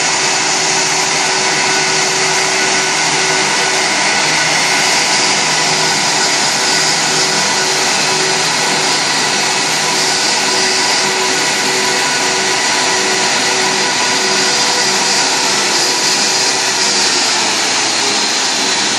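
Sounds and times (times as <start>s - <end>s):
jet engines idling whine: 0.0s - 18.9s.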